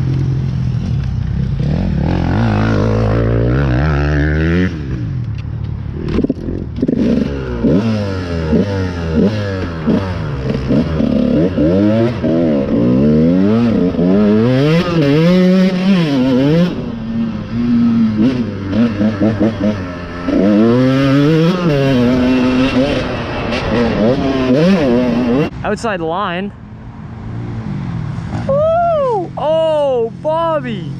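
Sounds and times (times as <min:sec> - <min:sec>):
dirt bike engine revving: 0:00.0 - 0:05.2, 0:05.9 - 0:25.8.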